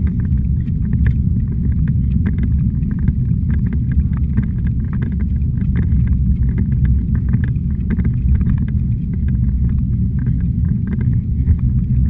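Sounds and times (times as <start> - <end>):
stroller rolling on pavement: 0.0 - 12.0.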